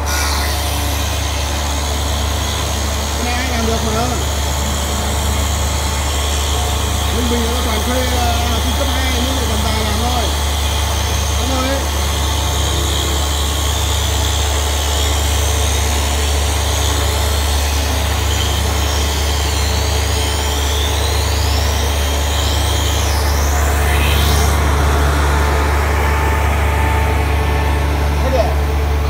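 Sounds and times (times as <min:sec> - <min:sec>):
high wavering whine: 0:00.0 - 0:29.0
rounding machine humming: 0:00.0 - 0:29.0.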